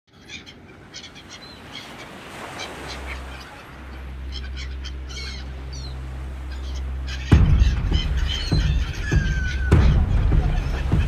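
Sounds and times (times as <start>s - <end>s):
gulls squawking: 0.1s - 11.0s.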